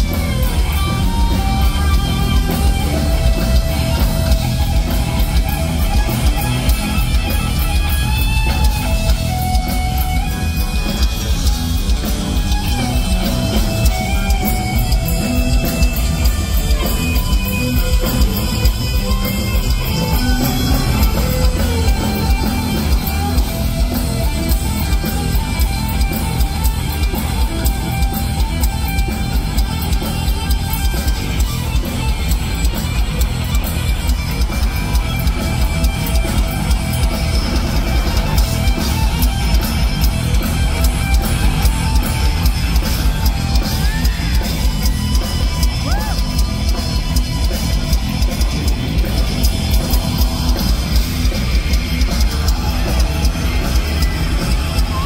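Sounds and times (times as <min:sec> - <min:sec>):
drums: 0:00.0 - 0:55.0
electric guitar: 0:00.0 - 0:55.0.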